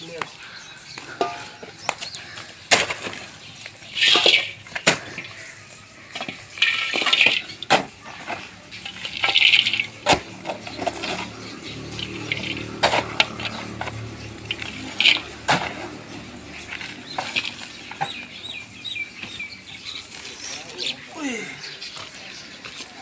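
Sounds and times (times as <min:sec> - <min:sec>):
blade scraping and clinking on stones: 0:00.0 - 0:21.0.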